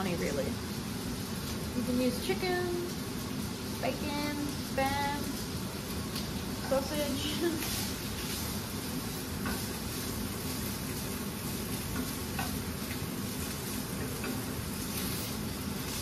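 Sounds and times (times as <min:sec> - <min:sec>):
sausage sizzling in a frying pan: 0:00.0 - 0:16.0.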